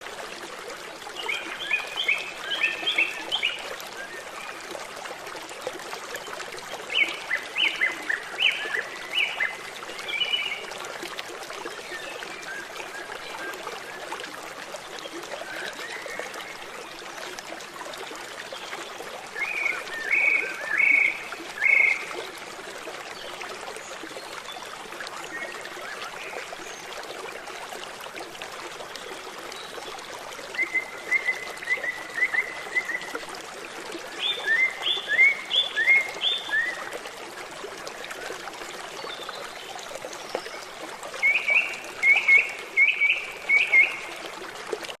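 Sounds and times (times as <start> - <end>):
running water rushing: 0.0 - 45.0.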